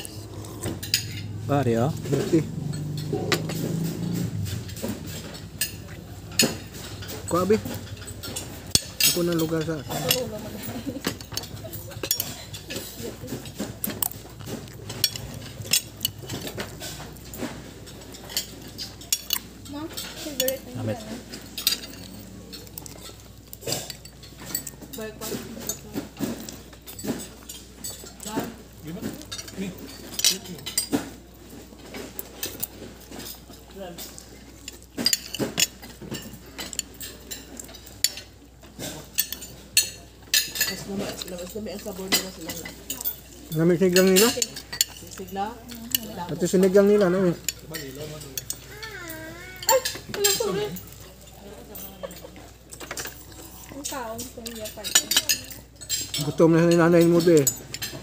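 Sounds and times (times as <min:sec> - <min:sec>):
cutlery clinking on plates: 0:00.0 - 0:58.0.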